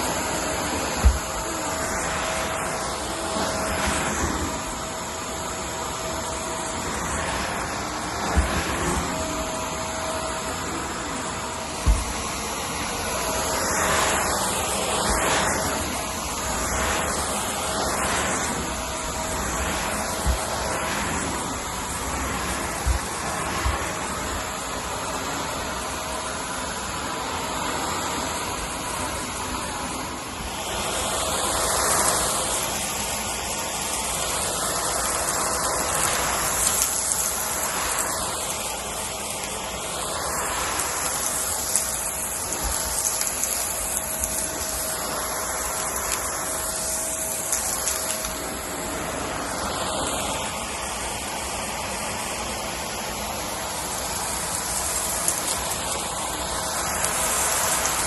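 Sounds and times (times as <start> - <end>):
vacuum cleaner on a rug: 0.0 - 58.0.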